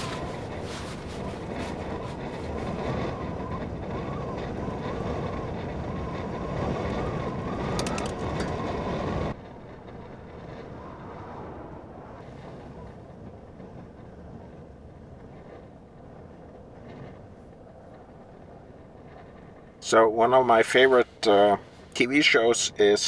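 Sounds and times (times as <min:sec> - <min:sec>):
blizzard wind howling: 0:00.0 - 0:23.0.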